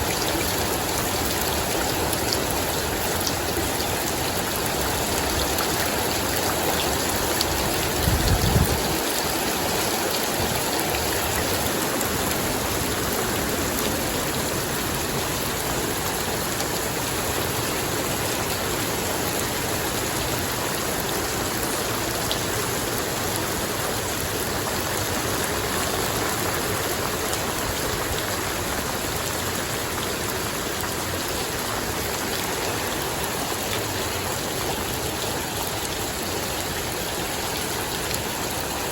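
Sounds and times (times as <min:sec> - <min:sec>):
rain falling: 0:00.0 - 0:38.9
running water: 0:00.0 - 0:38.9.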